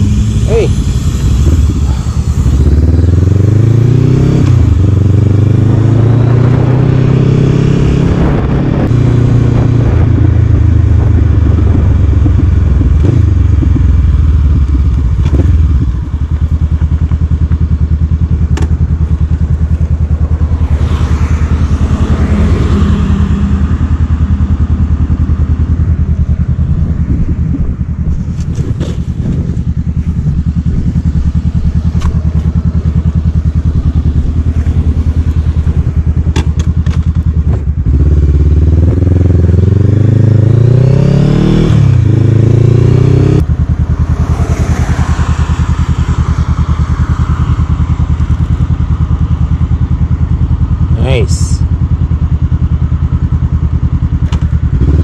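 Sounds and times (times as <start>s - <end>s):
motorcycle engine idling: 0.0s - 3.7s, 10.6s - 40.2s, 43.4s - 55.0s
motorcycle engine accelerating: 0.0s - 55.0s.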